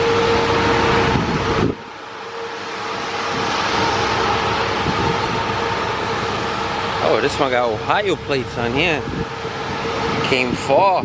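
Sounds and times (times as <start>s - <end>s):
motor vehicle running: 0.0s - 10.8s.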